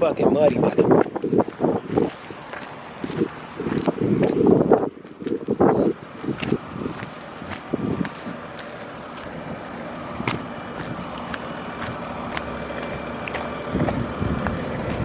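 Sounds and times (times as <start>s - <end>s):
footsteps squelching through mud: 0.0s - 15.0s
wind noise on microphone: 0.0s - 15.0s.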